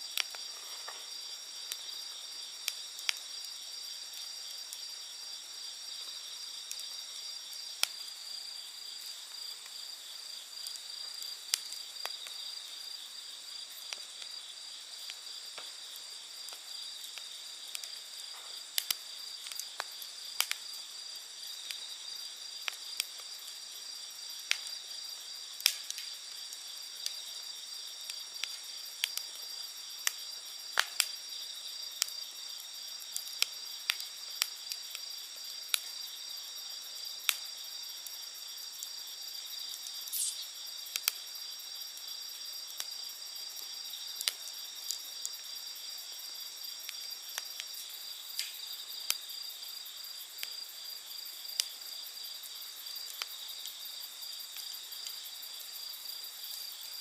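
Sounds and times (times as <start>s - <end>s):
campfire crackling and popping: 0.0s - 57.0s
night insects chirring: 0.0s - 57.0s.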